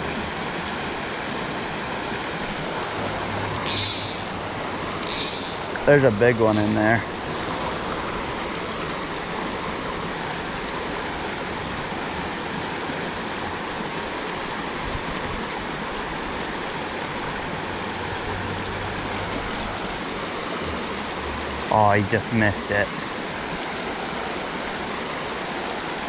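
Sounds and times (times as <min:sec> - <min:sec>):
creek water flowing: 0:00.0 - 0:26.0.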